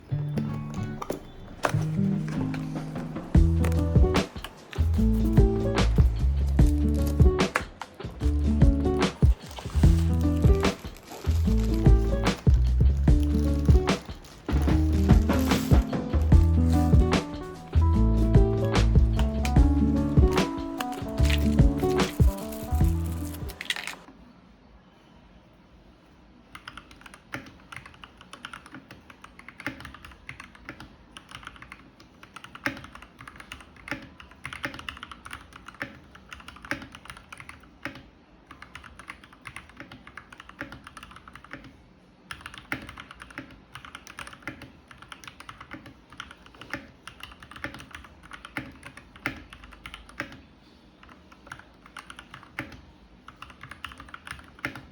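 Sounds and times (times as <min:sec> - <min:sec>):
mechanical keyboard typing: 0:00.5 - 0:24.1, 0:26.5 - 0:54.9.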